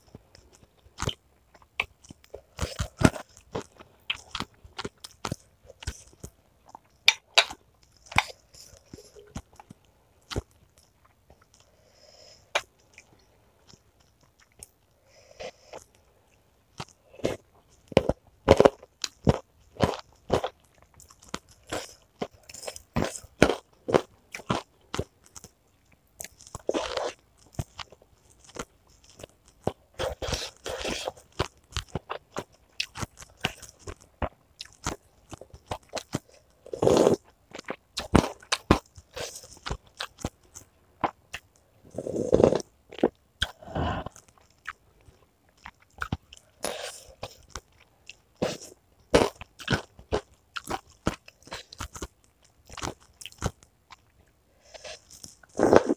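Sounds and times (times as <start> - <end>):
crunchy chewing: 0.0 - 55.9.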